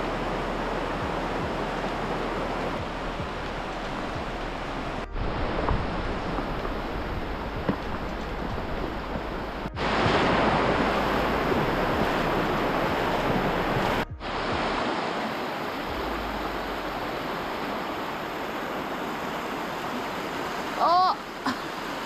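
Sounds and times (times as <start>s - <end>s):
person wading through river: 0.0s - 22.0s
river water rushing: 0.0s - 22.0s.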